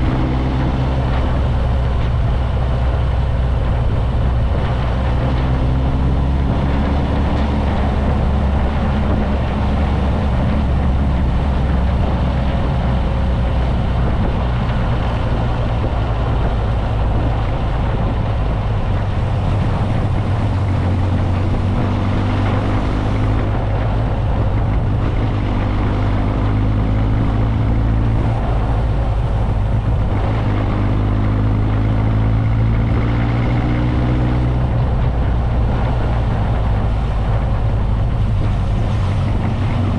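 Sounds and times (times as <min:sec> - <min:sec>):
motorcycle engine accelerating: 0:00.0 - 0:39.9
steady rush of noise: 0:00.0 - 0:39.9.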